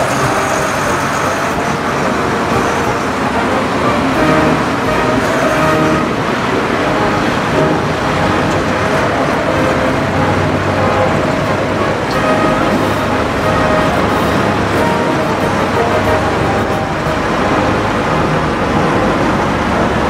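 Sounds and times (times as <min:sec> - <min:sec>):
machinery rumble: 0:00.0 - 0:20.0
tractor engines running: 0:00.0 - 0:20.0.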